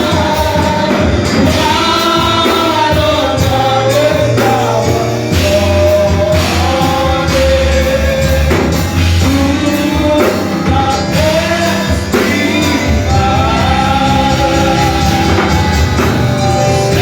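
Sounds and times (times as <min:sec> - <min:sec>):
gospel worship music with singing: 0:00.0 - 0:17.0.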